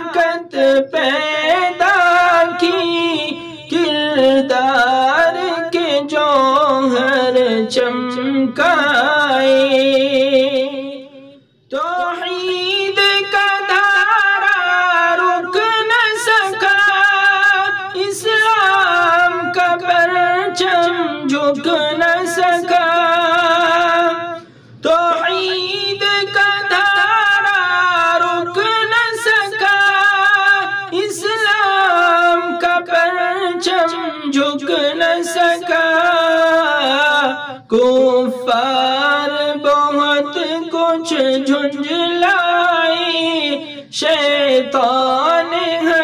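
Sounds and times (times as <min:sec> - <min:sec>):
person singing a cappella: 0:00.0 - 0:46.0.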